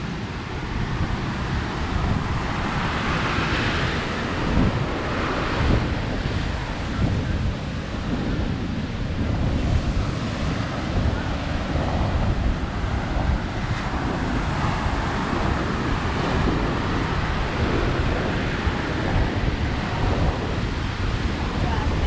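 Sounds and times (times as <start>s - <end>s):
ocean surf breaking on sand: 0.0s - 22.0s
wind buffeting microphone: 0.0s - 22.0s.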